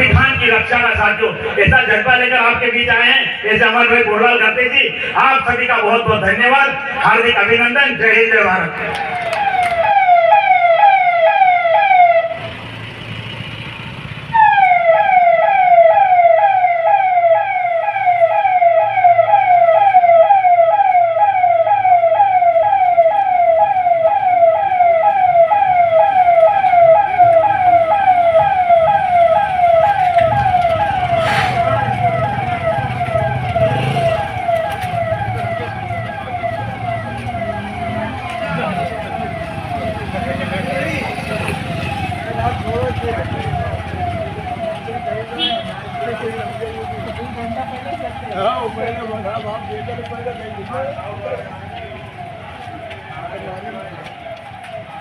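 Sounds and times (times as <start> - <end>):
electronic siren yelping: 8.6 - 12.6, 14.3 - 55.0.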